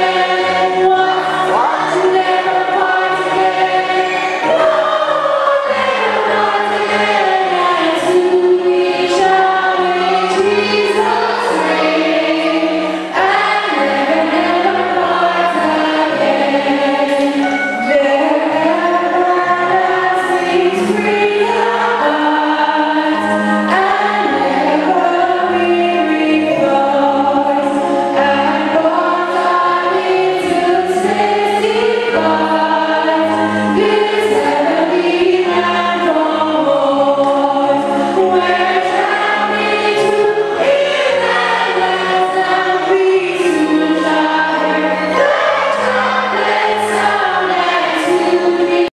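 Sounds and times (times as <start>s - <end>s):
congregation singing a hymn: 0.0s - 48.9s.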